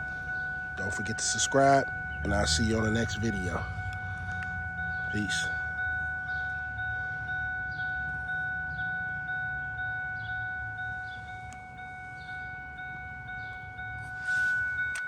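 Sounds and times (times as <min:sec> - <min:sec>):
low engine rumble: 0:00.0 - 0:15.0
vehicle warning chime dinging: 0:00.0 - 0:15.0.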